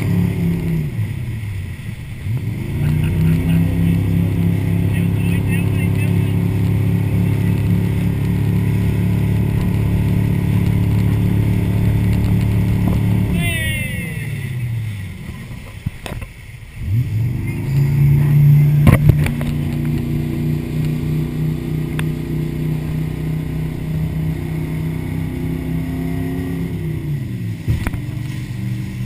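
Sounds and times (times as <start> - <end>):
motorboat engine: 0.0 - 29.0.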